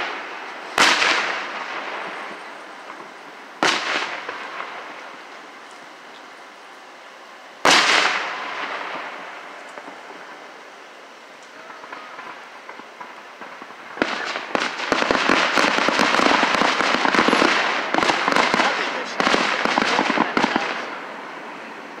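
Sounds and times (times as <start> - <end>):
fireworks crackling and popping: 0.0 - 22.0.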